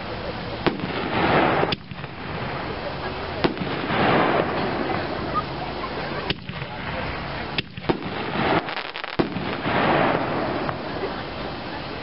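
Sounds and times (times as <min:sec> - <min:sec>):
fireworks shells bursting: 0:00.6 - 0:12.0.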